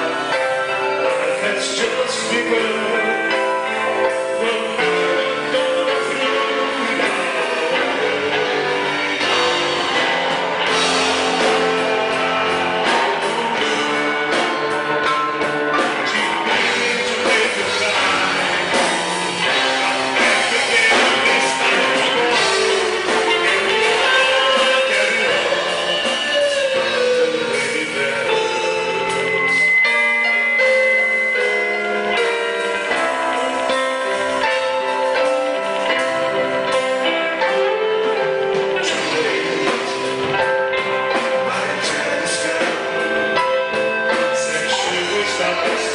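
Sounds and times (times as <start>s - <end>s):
person singing: 0.0s - 45.9s
rock band playing: 0.0s - 45.9s.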